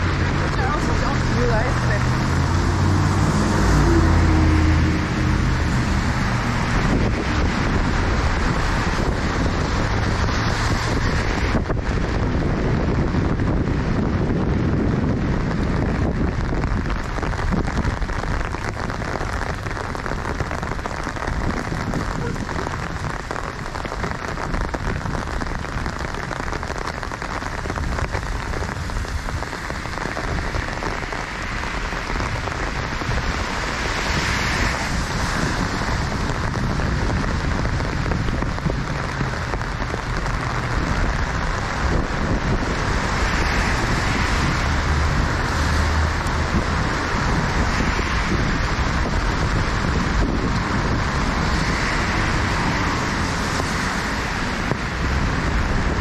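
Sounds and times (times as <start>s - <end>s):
raindrops tapping: 0.0s - 56.0s
steady rain hiss: 0.0s - 56.0s
street traffic rumble: 0.0s - 56.0s.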